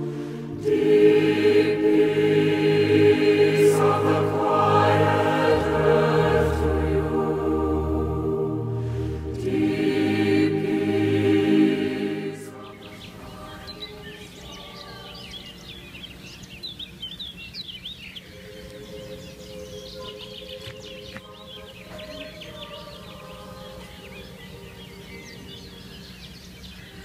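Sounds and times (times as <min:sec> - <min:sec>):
choral music: 0:00.0 - 0:17.0, 0:18.2 - 0:27.0
songbirds chirping: 0:00.0 - 0:27.0.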